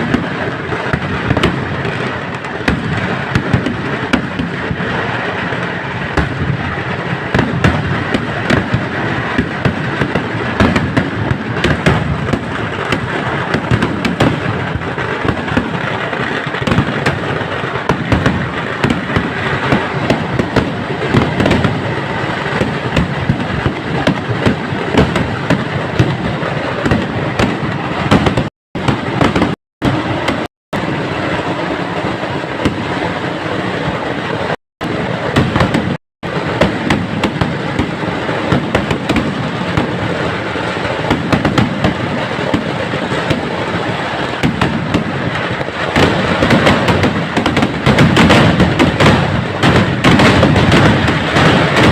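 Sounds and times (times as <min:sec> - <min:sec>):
firecracker bangs and crackling: 0:00.0 - 0:51.9.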